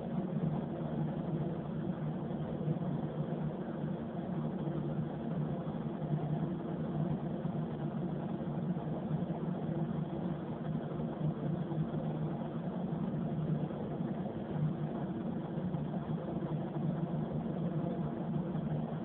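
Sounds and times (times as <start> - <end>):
ventilation fans humming: 0.0 - 19.0.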